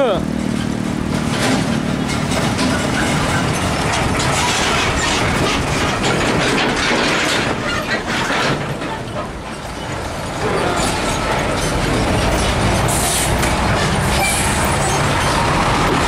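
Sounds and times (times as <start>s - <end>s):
diesel truck engines: 0.0s - 16.0s
trailers clattering and rattling: 0.0s - 16.0s.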